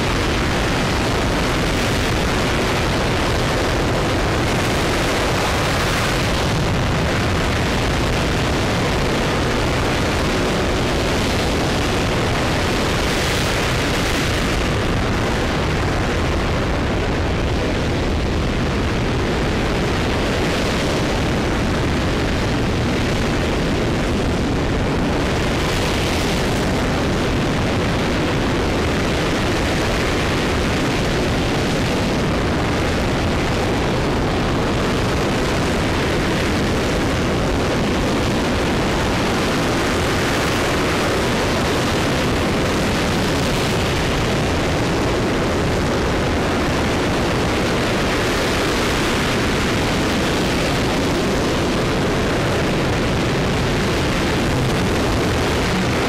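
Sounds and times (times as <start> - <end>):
rocket engine roaring: 0.0 - 56.0.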